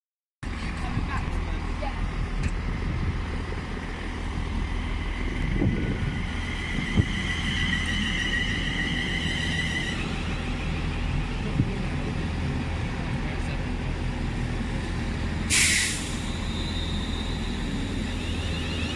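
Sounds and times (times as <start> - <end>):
train wheels rumbling on rail: 0.4 - 18.9.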